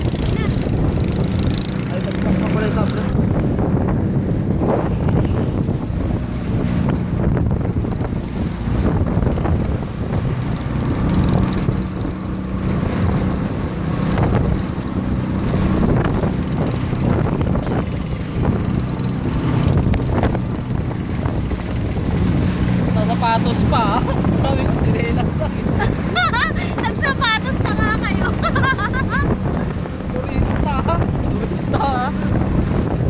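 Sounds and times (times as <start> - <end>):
motorboat engine running: 0.0 - 33.0
water splashes: 0.0 - 33.0
wind buffeting microphone: 0.0 - 33.0.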